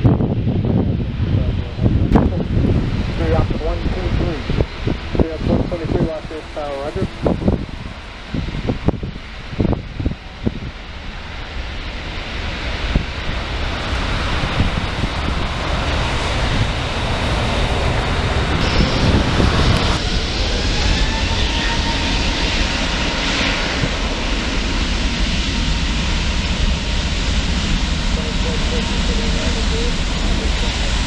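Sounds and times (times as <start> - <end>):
jet airliner engines passing: 0.0 - 31.0
steady whine: 0.0 - 31.0.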